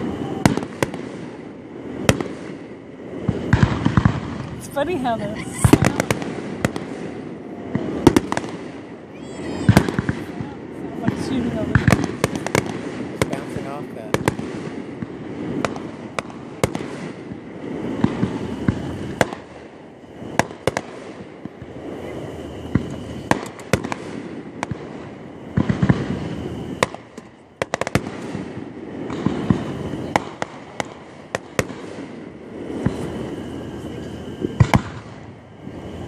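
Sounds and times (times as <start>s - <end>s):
fireworks bangs: 0.0s - 36.0s.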